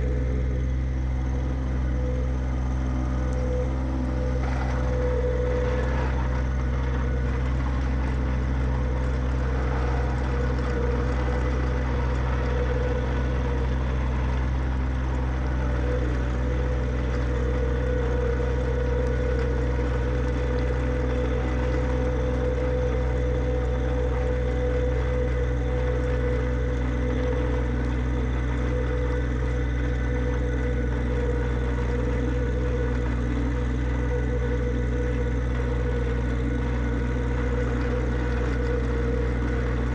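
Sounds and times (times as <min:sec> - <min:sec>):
high whine: 0:00.0 - 0:39.9
tractor diesel engine running: 0:00.0 - 0:39.9.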